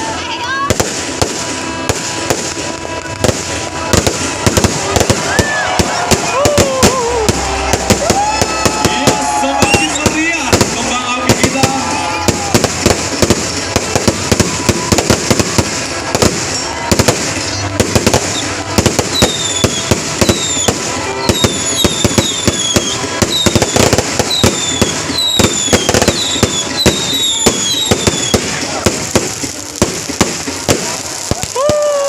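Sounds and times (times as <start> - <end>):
fireworks bangs and crackles: 0.0 - 32.0
falling firework whistles: 1.6 - 32.0.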